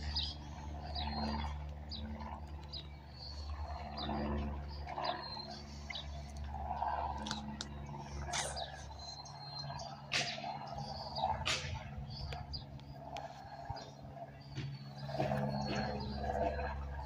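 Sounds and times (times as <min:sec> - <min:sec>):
birds chirping: 0:00.0 - 0:17.0
distant airplane engine drone: 0:00.0 - 0:17.0.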